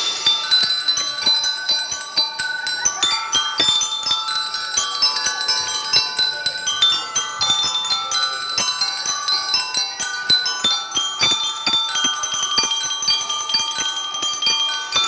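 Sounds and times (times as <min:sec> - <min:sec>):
bell-lyre melody: 0:00.0 - 0:15.0.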